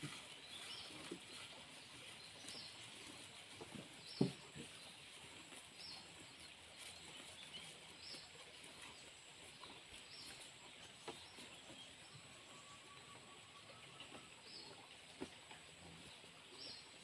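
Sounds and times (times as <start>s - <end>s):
cow chewing grass: 0.0s - 17.0s.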